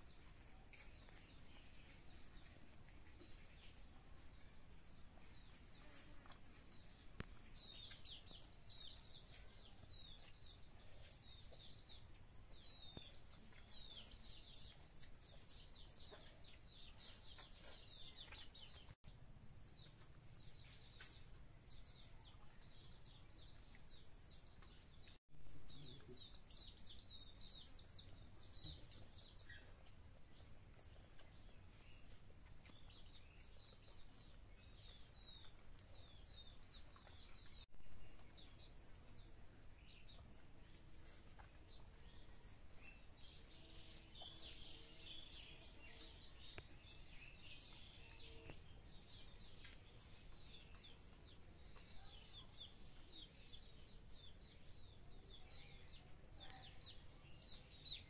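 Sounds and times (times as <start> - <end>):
young chickens peeping: 0.0 - 58.0.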